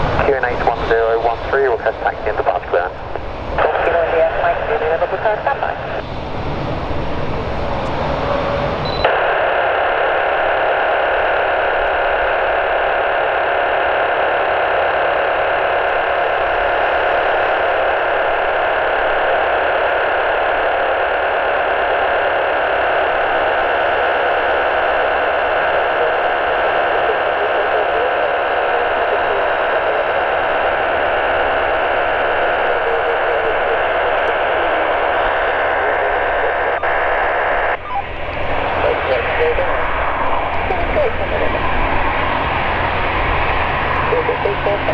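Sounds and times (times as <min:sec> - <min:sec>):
faint steady tones: 0:00.0 - 0:44.9
loud hiss-like noise: 0:00.0 - 0:44.9.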